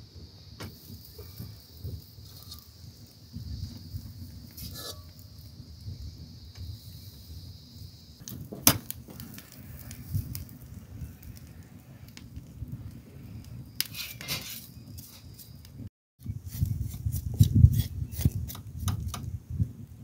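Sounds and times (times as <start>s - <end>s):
wood fire rumbling: 0.0s - 15.9s, 16.6s - 20.0s
fire crackling: 0.0s - 20.0s.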